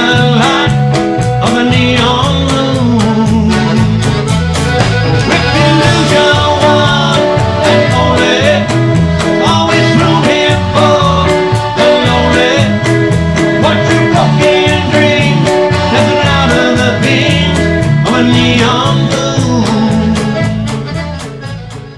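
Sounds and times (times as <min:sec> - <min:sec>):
live band playing: 0:00.0 - 0:21.9.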